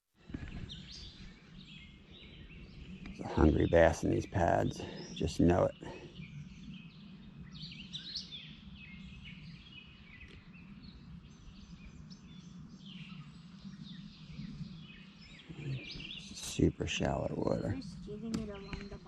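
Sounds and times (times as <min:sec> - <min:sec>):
birds singing and chirping: 0:00.3 - 0:19.0
low steady background rumble: 0:00.4 - 0:19.0.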